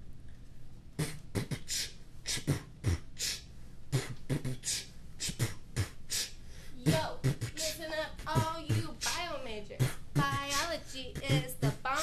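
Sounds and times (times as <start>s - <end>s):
beatboxing: 1.0s - 12.0s.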